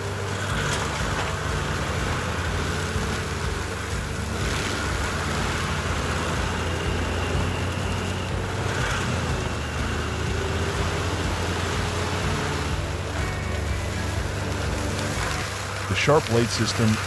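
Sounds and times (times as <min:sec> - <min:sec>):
grinding hiss: 0:00.0 - 0:17.0
stump grinder engine running: 0:00.0 - 0:17.0.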